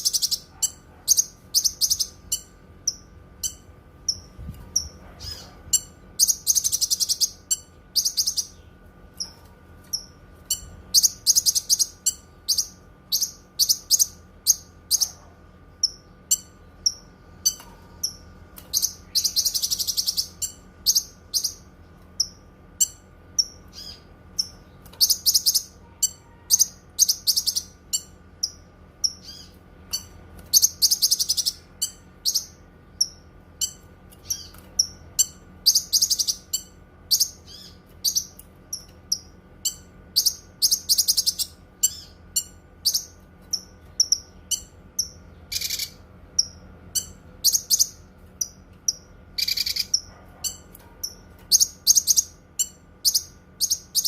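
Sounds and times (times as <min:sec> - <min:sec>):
songbird chirping and trilling: 0:00.0 - 0:54.0.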